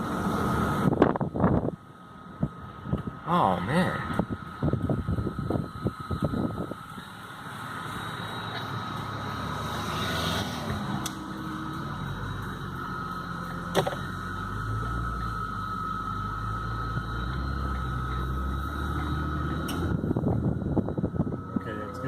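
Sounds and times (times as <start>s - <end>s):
car engine and road hum: 0.0s - 22.0s.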